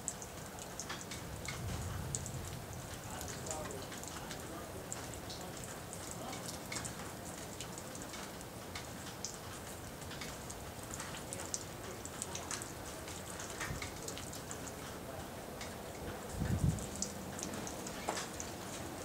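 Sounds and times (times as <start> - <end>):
rain falling: 0.0 - 19.0
raindrops ticking on surfaces: 0.0 - 19.0.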